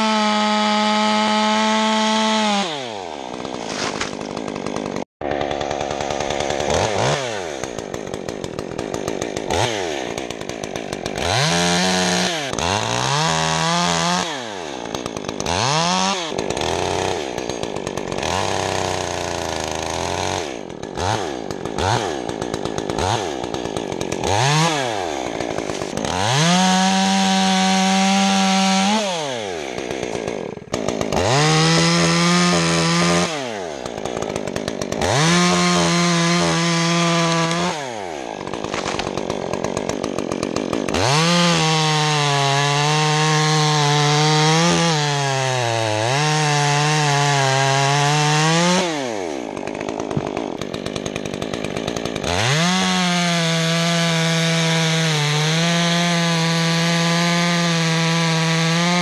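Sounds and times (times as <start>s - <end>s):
chainsaw revving and cutting: 0.0s - 59.0s.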